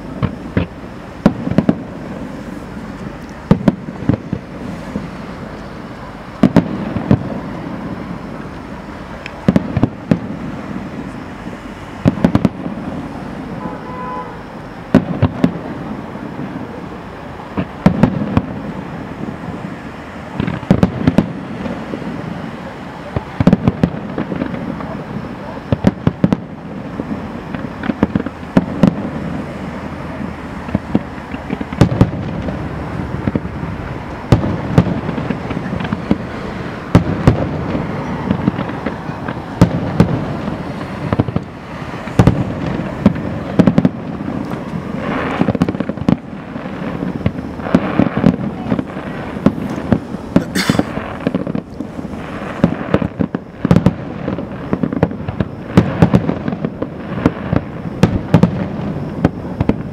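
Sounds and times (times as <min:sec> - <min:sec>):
firework shells bursting: 0:00.0 - 0:19.6, 0:20.3 - 0:59.9
fireworks crackle: 0:00.0 - 0:59.9
whistling rocket: 0:00.0 - 0:59.9.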